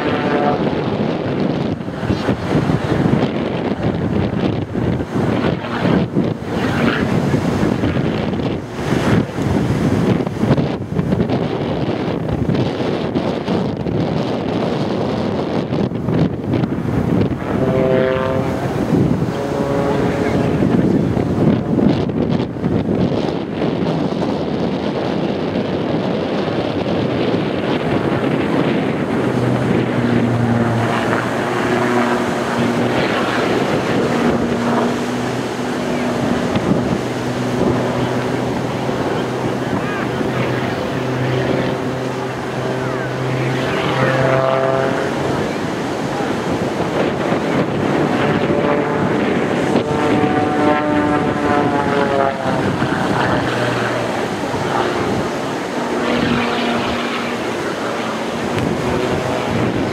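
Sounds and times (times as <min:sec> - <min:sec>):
propeller plane engine drone: 0:00.0 - 0:59.9
wind buffeting microphone: 0:00.0 - 0:59.9.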